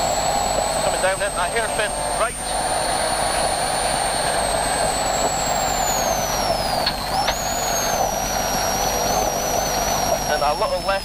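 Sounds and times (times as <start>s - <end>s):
drivetrain whine: 0.0s - 11.0s.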